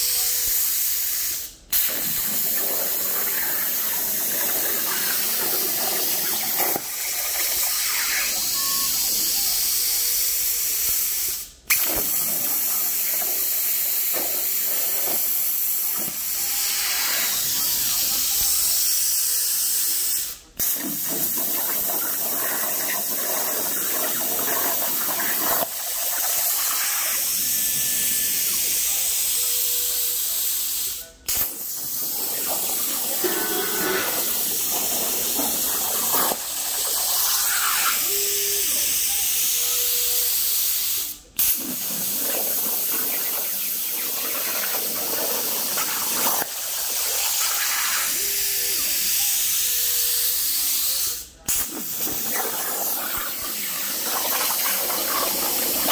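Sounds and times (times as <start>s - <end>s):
plasma cutter arc hissing: 0.0s - 55.9s.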